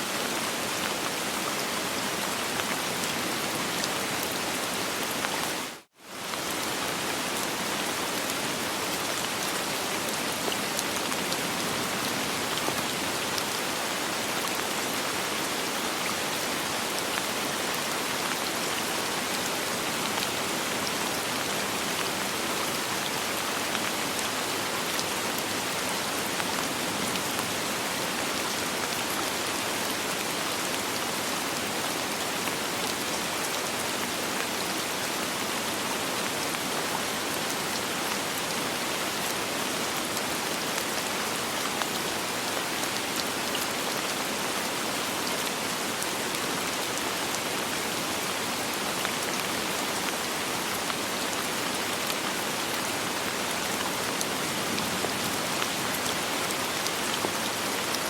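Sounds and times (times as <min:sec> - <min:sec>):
soft rain falling: 0:00.0 - 0:58.0.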